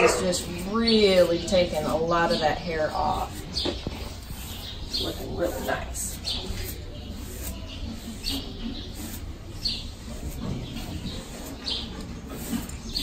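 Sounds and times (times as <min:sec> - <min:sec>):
brush swishing over horse coat: 0:00.0 - 0:13.0.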